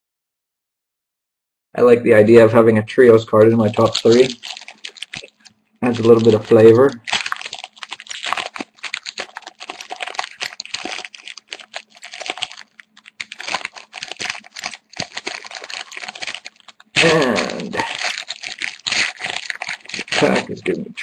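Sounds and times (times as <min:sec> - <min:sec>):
card pack wrapper crinkling and tearing: 0:03.4 - 0:21.0.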